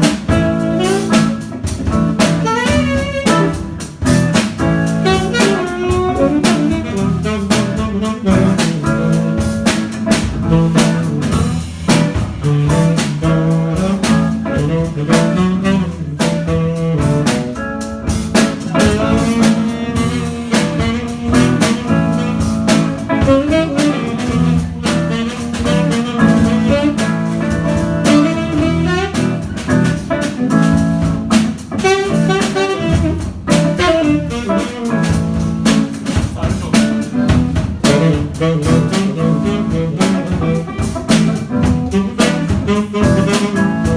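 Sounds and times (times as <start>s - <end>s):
drum kit hits: 0.0s - 43.9s
guitar: 0.0s - 43.9s
saxophone melody: 0.0s - 43.9s.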